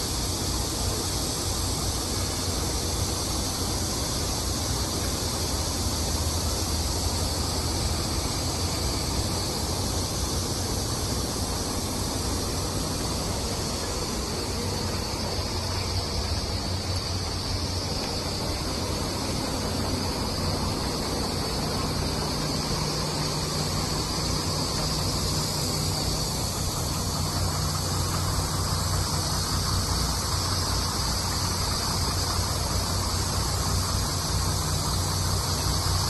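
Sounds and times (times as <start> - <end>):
diesel truck engine idling: 0.0 - 36.0
steady high hiss: 0.0 - 36.0.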